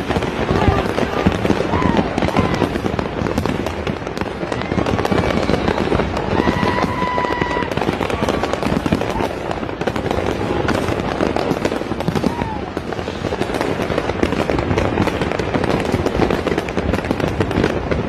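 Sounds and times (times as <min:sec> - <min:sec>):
firecrackers popping and crackling: 0:00.0 - 0:18.0.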